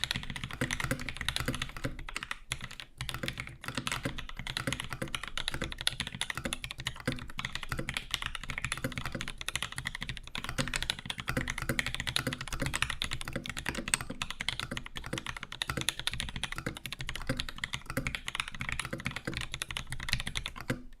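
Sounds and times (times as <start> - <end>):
fast typing on mechanical keyboard: 0.0 - 21.0.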